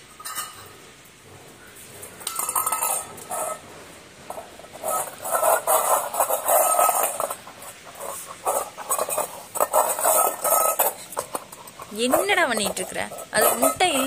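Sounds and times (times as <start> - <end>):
metal bowl scraping on concrete: 0.0 - 0.9, 1.6 - 14.0.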